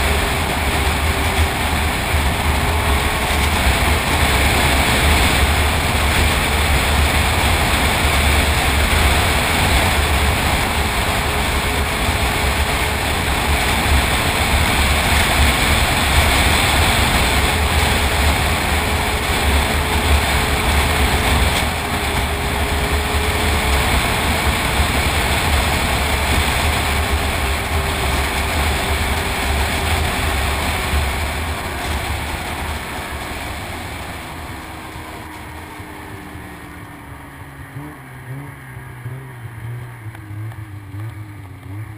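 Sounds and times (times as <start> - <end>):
snowmobile engine running: 0.0 - 41.9.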